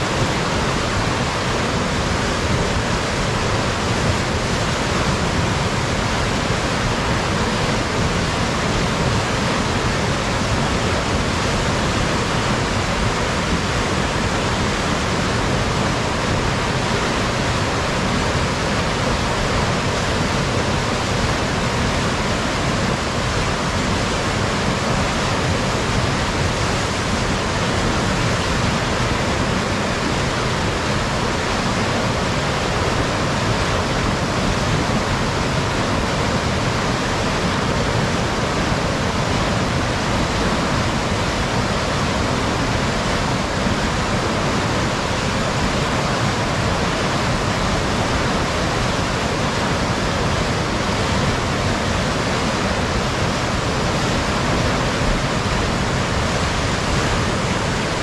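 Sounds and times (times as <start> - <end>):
floodwater rushing over rocks: 0.0 - 58.0.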